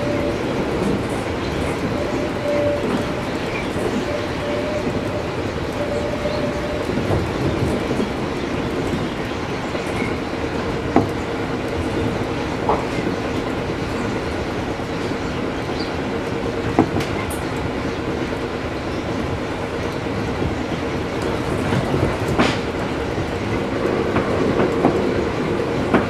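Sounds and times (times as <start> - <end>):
train rolling noise: 0.0 - 26.0.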